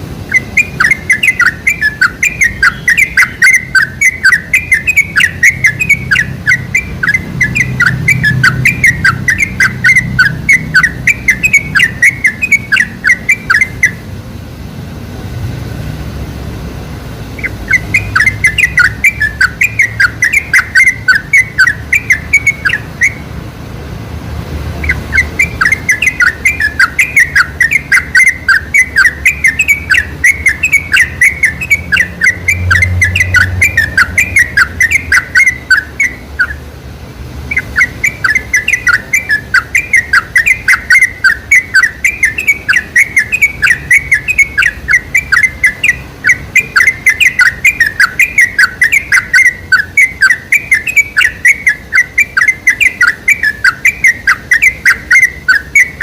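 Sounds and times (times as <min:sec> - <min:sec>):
bird chattering chirps: 0:00.2 - 0:14.1, 0:17.4 - 0:23.3, 0:24.7 - 0:36.7, 0:37.4 - 0:56.0.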